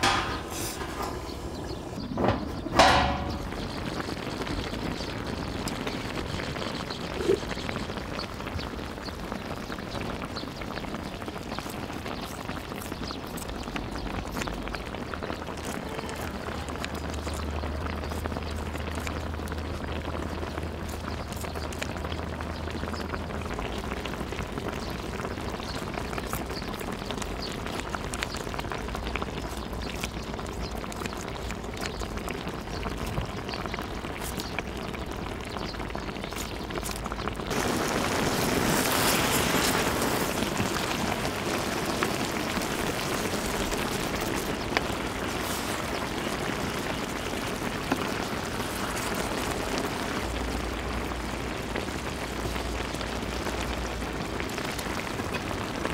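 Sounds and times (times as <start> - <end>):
pot simmering and bubbling: 0.0 - 55.9.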